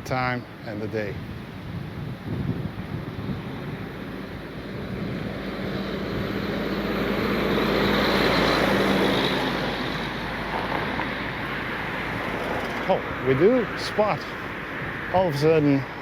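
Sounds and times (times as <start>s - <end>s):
vehicle passing by: 2.9s - 16.0s.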